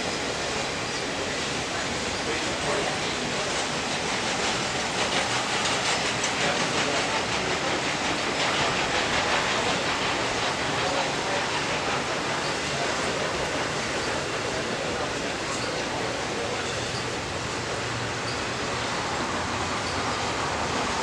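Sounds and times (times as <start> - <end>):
train passing on rails: 0.0 - 21.0
faint rail clicks: 2.1 - 21.0.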